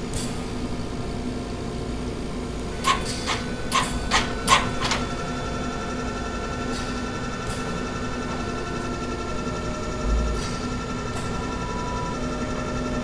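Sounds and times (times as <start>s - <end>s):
machine hum with low rumble: 0.0s - 13.0s.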